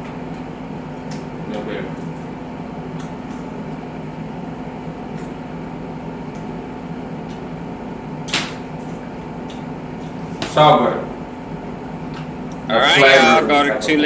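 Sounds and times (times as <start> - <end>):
appliance humming: 0.0 - 14.0.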